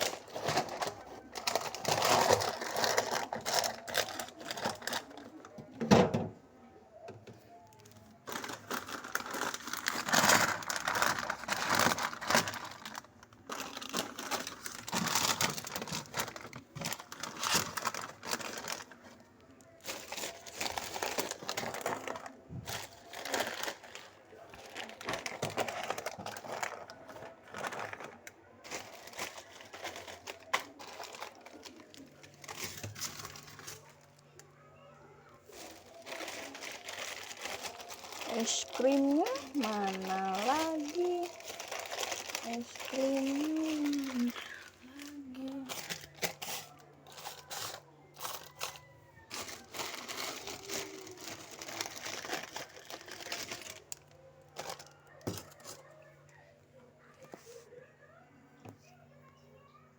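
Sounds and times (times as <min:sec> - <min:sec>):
plastic packets crinkling: 0:00.0 - 0:05.7, 0:07.7 - 0:34.5, 0:35.4 - 0:55.9.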